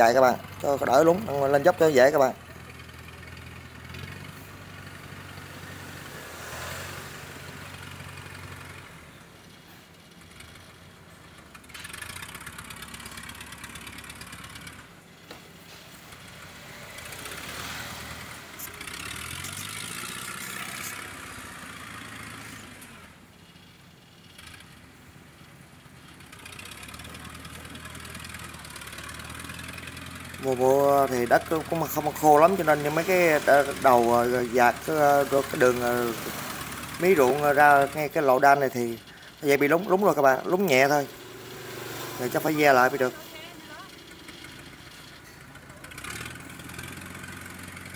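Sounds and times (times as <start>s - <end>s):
cart engine running: 0.0s - 47.9s.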